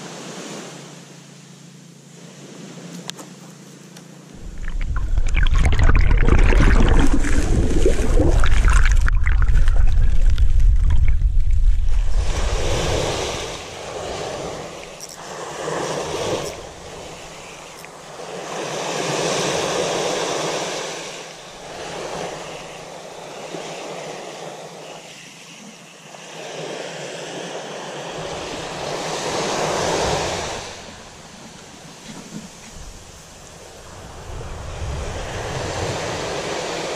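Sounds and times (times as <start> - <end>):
small waves breaking on beach: 0.0 - 1.2, 4.4 - 36.9.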